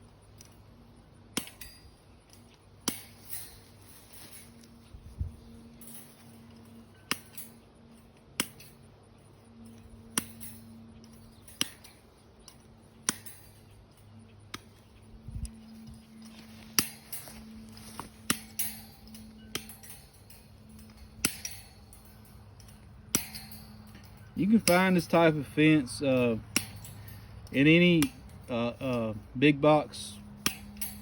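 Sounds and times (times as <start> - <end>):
wire cutters snipping fence: 0.0 - 31.0.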